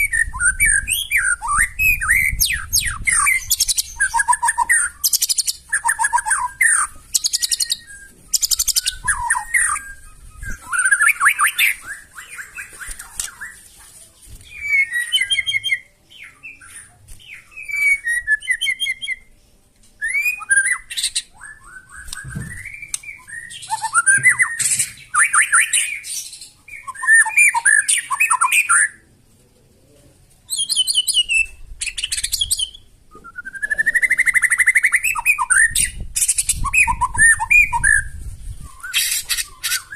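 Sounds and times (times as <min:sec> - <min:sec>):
songbird singing: 0:00.0 - 0:29.1, 0:29.8 - 0:39.9.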